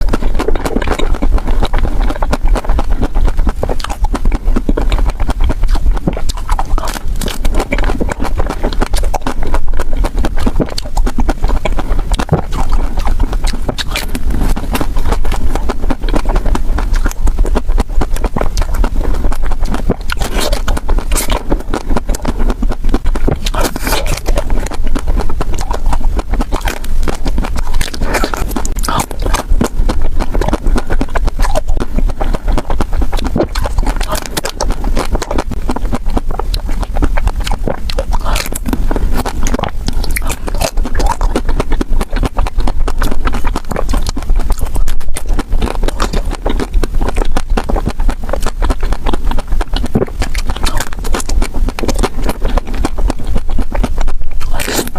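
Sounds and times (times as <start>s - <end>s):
ice cream being chewed: 0.0s - 54.9s.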